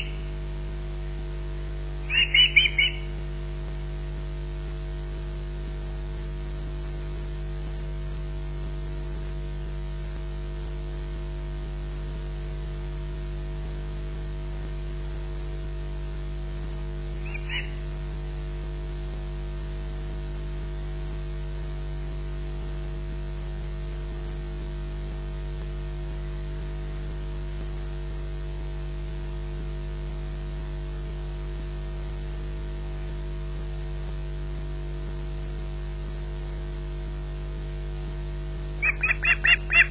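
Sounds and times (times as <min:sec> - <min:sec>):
electrical mains hum: 0:00.0 - 0:39.9
static hiss: 0:00.0 - 0:39.9.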